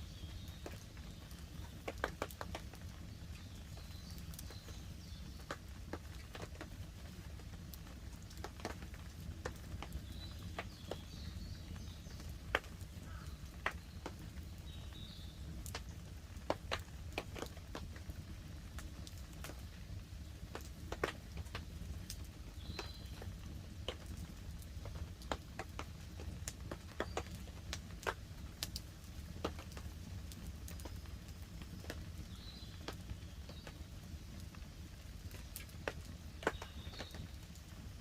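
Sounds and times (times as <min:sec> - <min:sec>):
campfire crackling and popping: 0:00.0 - 0:38.0
light rain on a tarp: 0:00.0 - 0:38.0.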